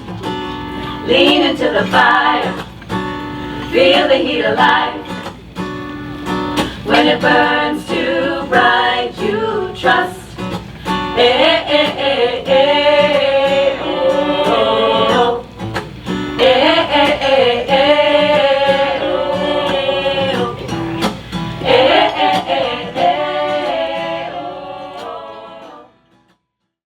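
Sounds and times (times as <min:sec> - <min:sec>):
mixed choir singing: 0:01.0 - 0:02.8, 0:03.6 - 0:05.4, 0:06.7 - 0:26.0.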